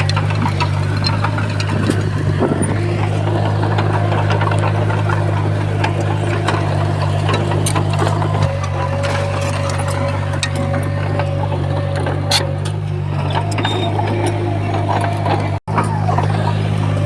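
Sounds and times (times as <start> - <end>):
heavy diesel engine running: 0.0 - 17.0
sharp clicks and clanks: 0.0 - 17.0.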